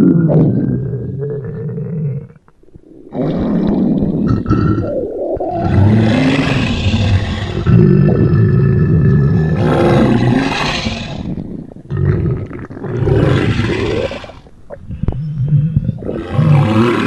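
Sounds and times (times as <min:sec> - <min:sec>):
cartoon stomach growl: 0:03.1 - 0:17.0.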